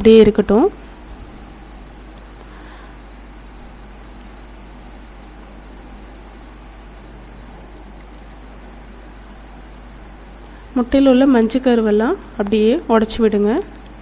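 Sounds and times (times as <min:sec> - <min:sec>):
high-pitched electronic whine: 0:00.0 - 0:14.0
low hum: 0:00.0 - 0:14.0.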